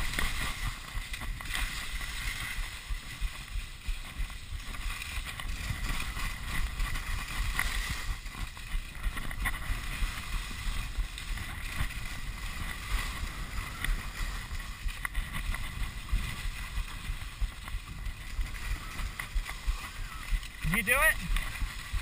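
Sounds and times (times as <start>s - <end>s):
skis scraping over snow: 0.0s - 22.0s
wind rumbling on microphone: 0.0s - 22.0s.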